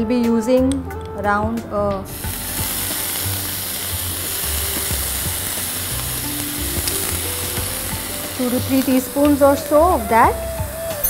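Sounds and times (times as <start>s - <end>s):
faint background music: 0.0s - 11.0s
food sizzling in oil: 2.1s - 11.0s.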